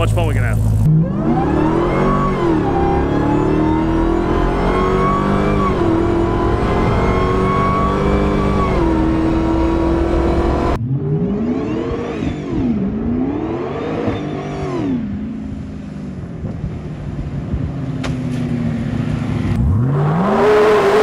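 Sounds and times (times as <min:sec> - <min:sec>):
engine accelerating hard: 0:00.0 - 0:17.7, 0:18.8 - 0:21.0.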